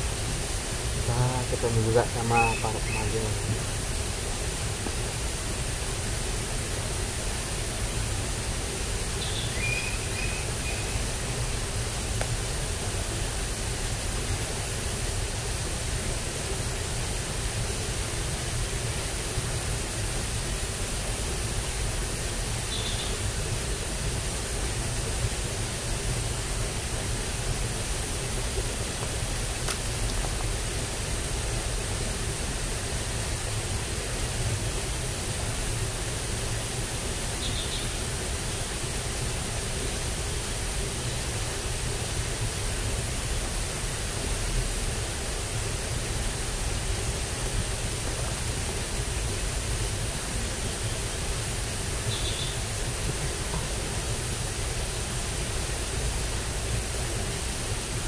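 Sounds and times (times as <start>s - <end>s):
rushing outdoor noise: 0.0s - 58.0s.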